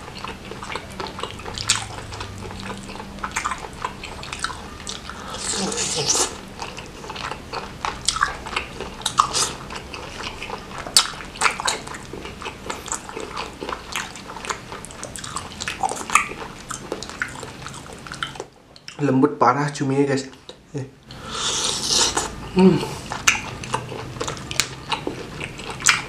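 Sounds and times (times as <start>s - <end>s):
person chewing food: 0.0s - 19.0s, 20.3s - 26.0s.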